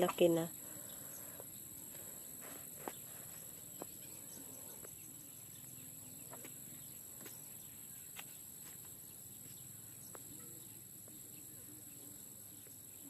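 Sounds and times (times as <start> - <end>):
steady high-pitched hum: 0.0 - 13.0.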